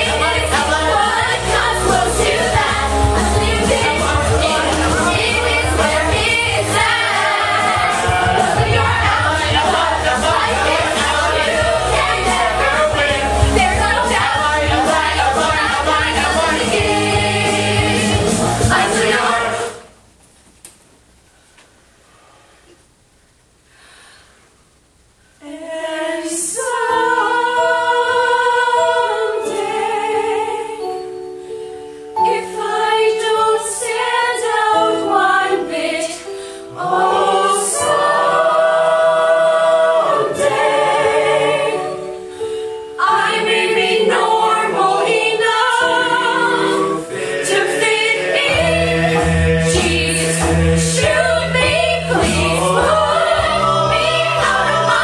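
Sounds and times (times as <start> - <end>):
choir singing in harmony: 0.0 - 20.0, 25.4 - 55.0.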